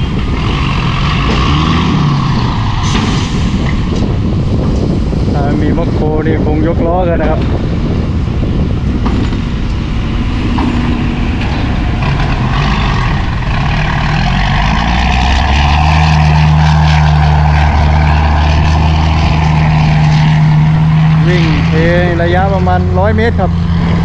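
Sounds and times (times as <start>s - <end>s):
diesel truck engine: 0.0s - 24.0s.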